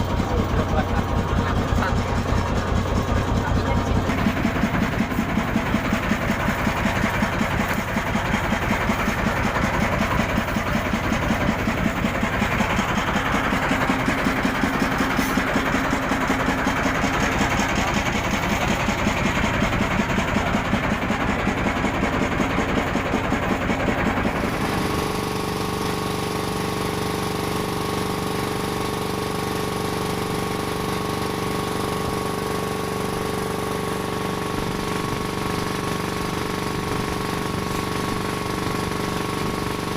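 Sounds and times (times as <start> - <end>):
engine running with rapid pulsing: 0.0 - 39.9.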